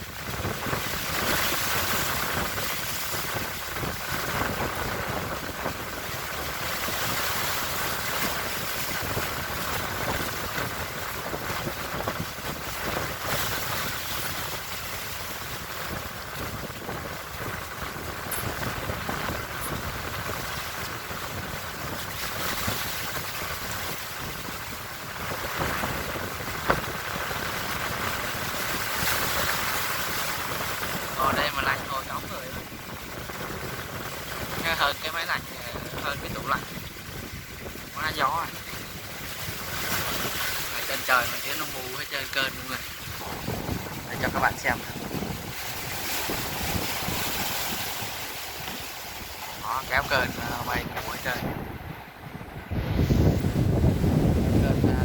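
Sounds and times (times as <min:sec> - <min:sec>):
sea noise: 0:00.0 - 0:55.0
wind buffeting microphone: 0:00.0 - 0:55.0.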